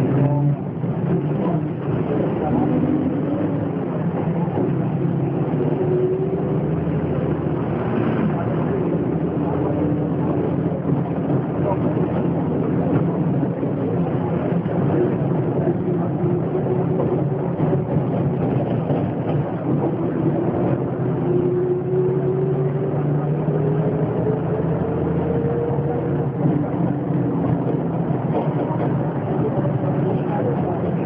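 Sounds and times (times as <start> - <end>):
bus engine accelerating: 0.0 - 31.0.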